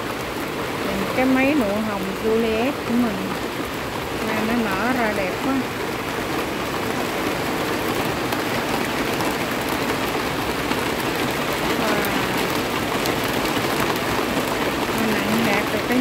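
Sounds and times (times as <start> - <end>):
heavy rain on leaves and netting: 0.0 - 16.0.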